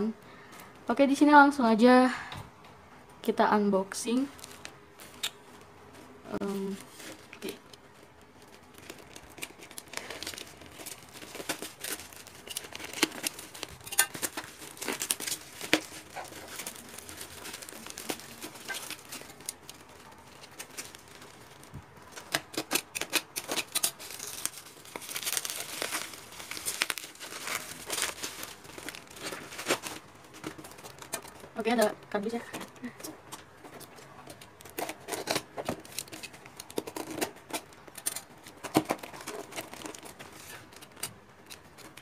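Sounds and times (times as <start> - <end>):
wrapping paper tearing and crinkling: 4.1 - 42.0.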